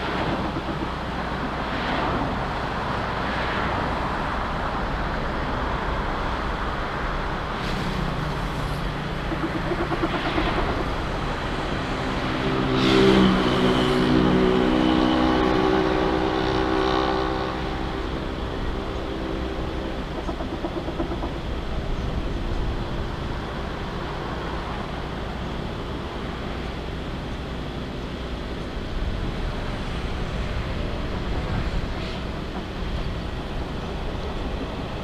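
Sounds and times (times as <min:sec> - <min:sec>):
loud engine noise: 0:00.0 - 0:35.0.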